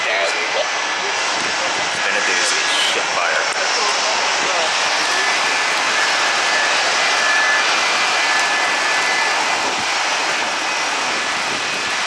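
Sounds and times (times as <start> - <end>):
high engine whine: 0.0 - 12.0
jet engines rushing: 0.0 - 12.0.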